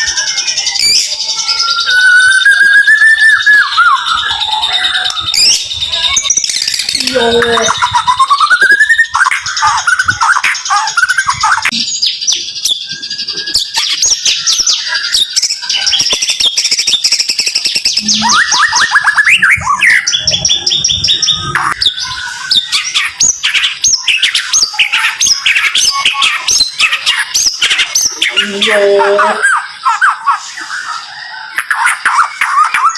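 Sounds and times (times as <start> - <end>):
bird singing rapid chirps: 0.0 - 32.9.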